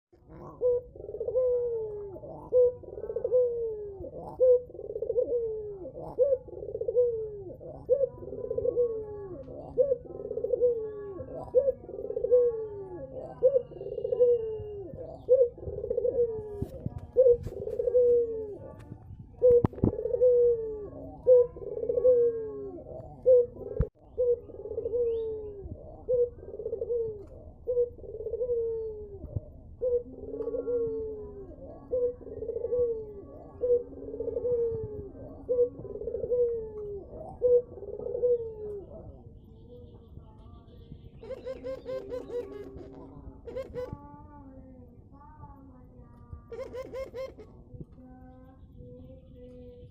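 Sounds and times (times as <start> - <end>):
dove cooing: 0.2 - 49.9.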